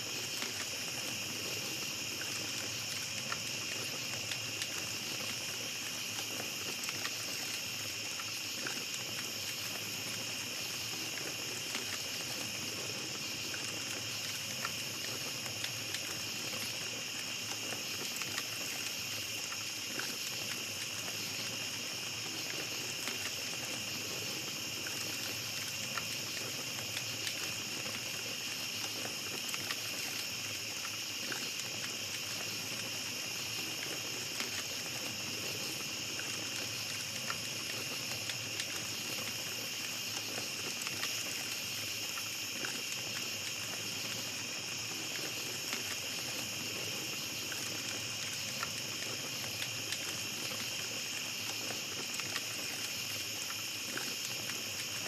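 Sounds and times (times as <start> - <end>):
campfire crackling: 0.0 - 55.0
night insects chorus: 0.0 - 55.0.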